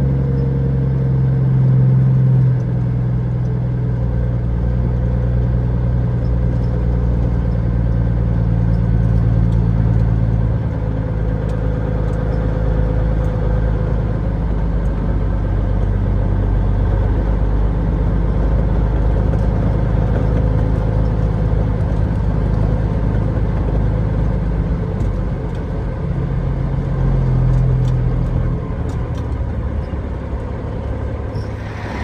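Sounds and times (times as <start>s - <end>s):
diesel truck engine droning: 0.0s - 32.0s.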